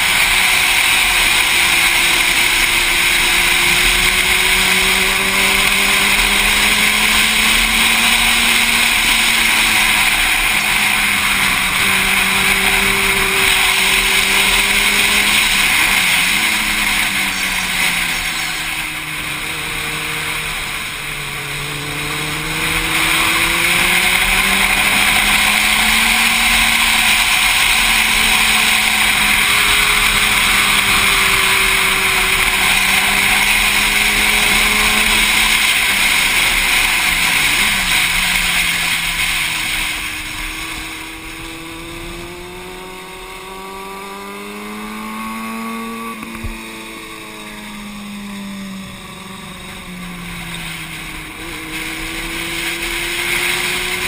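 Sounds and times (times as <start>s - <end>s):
motorcycle engine at speed: 0.0s - 54.0s.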